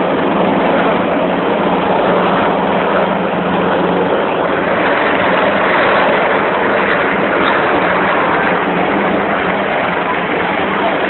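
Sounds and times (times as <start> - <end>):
helicopter rotor and turbine: 0.0 - 11.0
steady low hum: 0.0 - 11.0.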